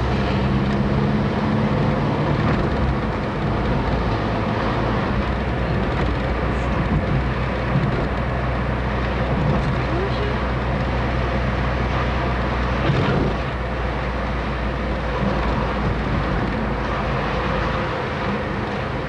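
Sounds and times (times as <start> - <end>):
car engine humming: 0.0 - 19.0
tyre and road noise: 0.0 - 19.0.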